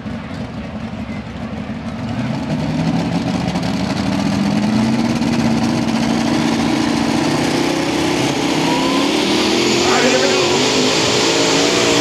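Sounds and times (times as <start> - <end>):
tractor engine revving: 1.9 - 12.0.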